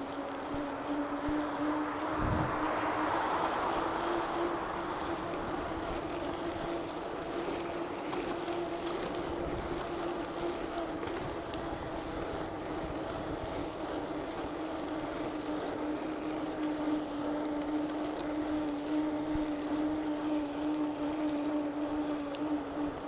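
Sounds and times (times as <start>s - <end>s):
bicycle rolling noise: 0.0s - 23.0s
droning hum: 0.0s - 23.0s
wind: 0.0s - 23.0s.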